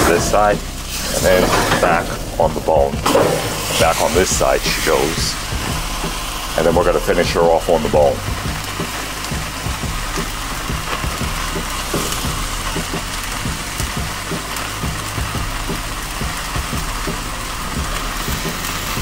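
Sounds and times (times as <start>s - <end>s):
meat sizzling on a grill: 0.0s - 19.0s
steady low drone: 0.0s - 19.0s.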